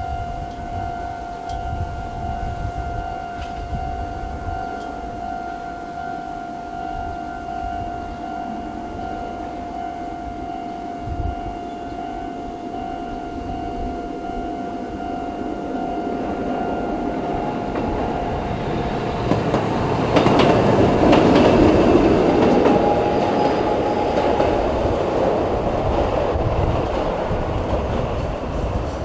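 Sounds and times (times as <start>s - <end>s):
level crossing alarm clanging: 0.0s - 28.5s
tram wheels rumbling and clicking: 0.0s - 29.0s.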